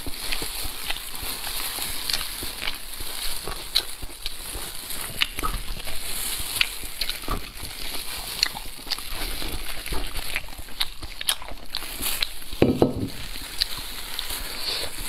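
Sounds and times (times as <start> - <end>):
crackly clicks of meat tearing: 0.0 - 15.0
wet chewing: 0.0 - 15.0.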